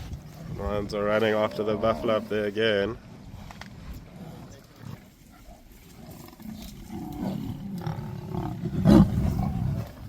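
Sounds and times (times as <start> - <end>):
lions growling: 0.0 - 10.0.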